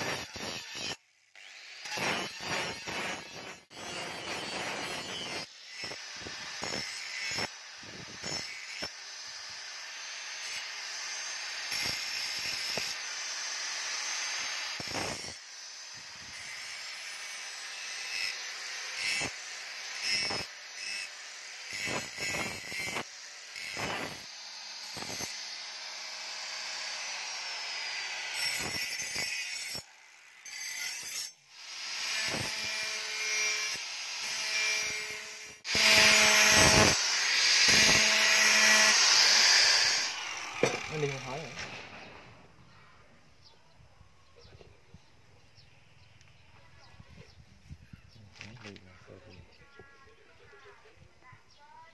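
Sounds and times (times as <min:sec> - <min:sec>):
angle grinder grinding steel: 0:00.0 - 0:42.6.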